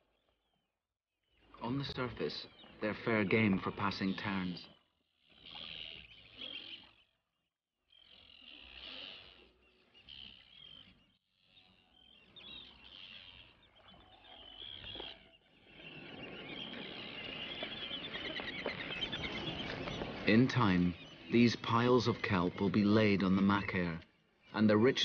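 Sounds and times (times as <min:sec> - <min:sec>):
chorus of bird calls: 0:01.2 - 0:25.0
terns chirping: 0:01.3 - 0:07.2, 0:07.9 - 0:25.0.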